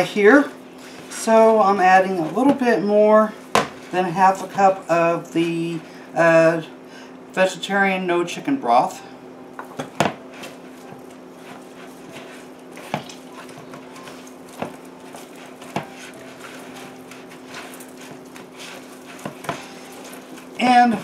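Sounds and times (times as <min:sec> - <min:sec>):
hand kneading wet dough: 0:00.0 - 0:06.6, 0:10.2 - 0:21.0
steady low hum: 0:00.0 - 0:21.0.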